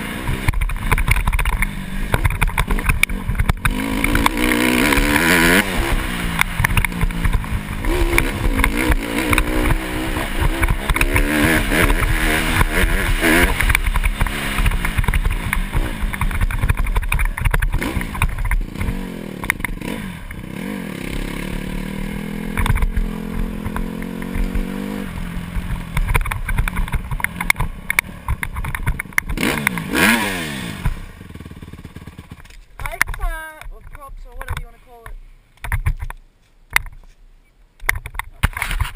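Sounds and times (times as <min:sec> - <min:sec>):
dirt bike engine revving: 0:00.0 - 0:33.5.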